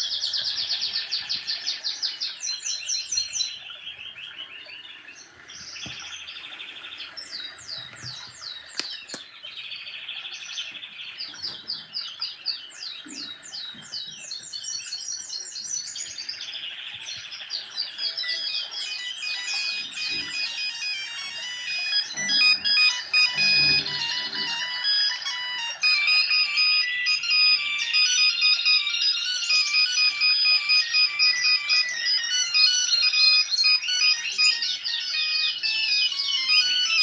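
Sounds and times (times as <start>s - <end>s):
bird chirping and trilling: 0.0s - 37.0s.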